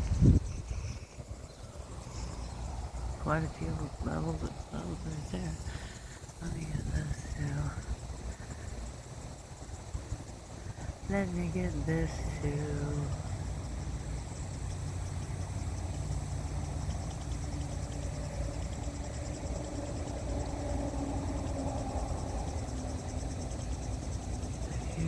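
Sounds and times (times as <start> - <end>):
faint distant engine hum: 0.0 - 25.0
insects trilling: 0.0 - 25.0.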